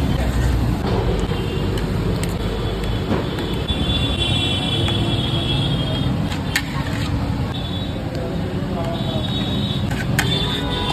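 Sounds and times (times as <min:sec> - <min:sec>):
street traffic rumble: 0:00.0 - 0:10.9.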